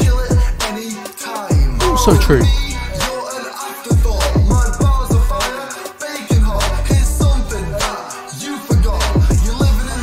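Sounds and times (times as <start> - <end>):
man rapping over a beat: 0.0 - 10.0.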